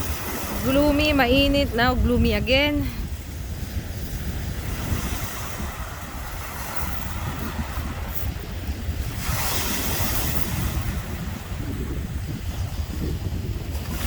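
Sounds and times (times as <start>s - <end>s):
wind buffeting the microphone: 0.0s - 14.0s.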